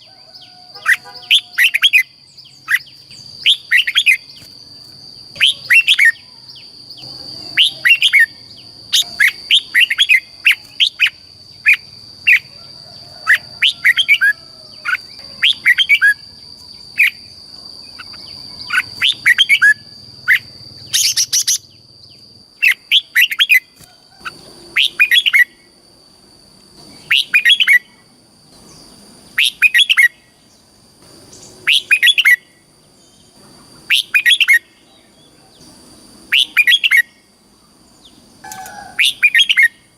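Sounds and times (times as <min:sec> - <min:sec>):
bird singing warbling phrases: 0:00.0 - 0:12.5, 0:13.2 - 0:25.7, 0:26.8 - 0:30.7, 0:31.3 - 0:39.9.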